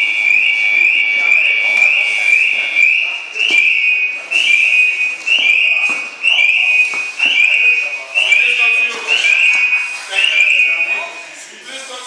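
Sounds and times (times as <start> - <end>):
breathing apparatus alarm whistling: 0.0 - 11.3.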